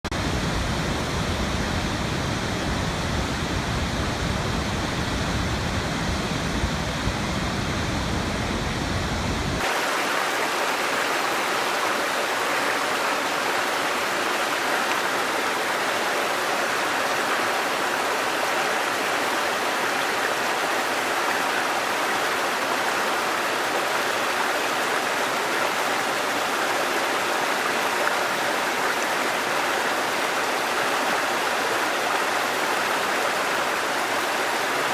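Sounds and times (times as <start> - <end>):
falling water rushing: 0.1 - 34.9.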